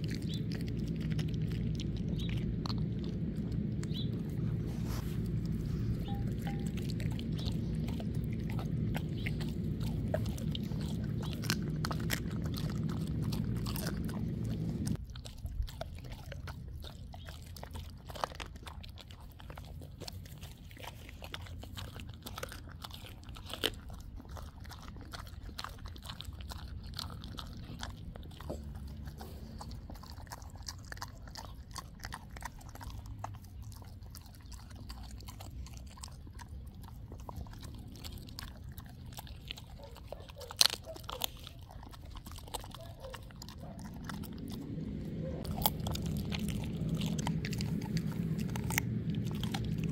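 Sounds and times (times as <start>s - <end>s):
dog chewing bone: 0.0s - 49.9s
low steady hum: 0.0s - 49.9s.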